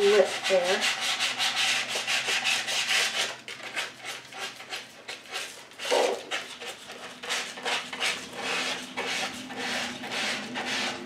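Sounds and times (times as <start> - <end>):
sandpaper rubbing on edge: 0.0 - 11.0.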